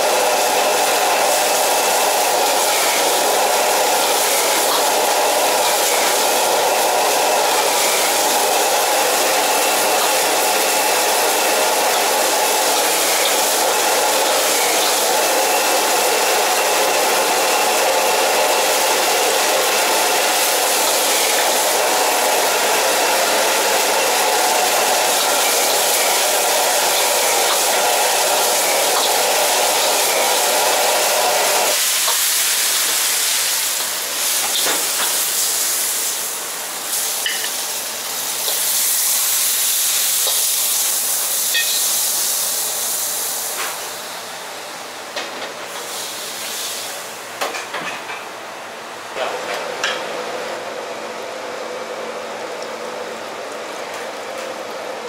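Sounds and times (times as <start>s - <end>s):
food sizzling: 0.0s - 44.2s, 45.7s - 47.3s
gas burner hissing: 0.0s - 44.4s, 45.0s - 47.8s.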